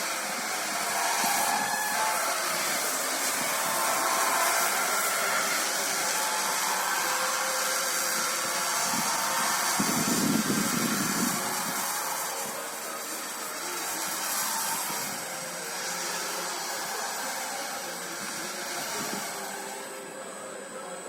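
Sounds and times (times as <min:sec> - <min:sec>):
ferris wheel creaking and squealing: 0:00.0 - 0:21.0.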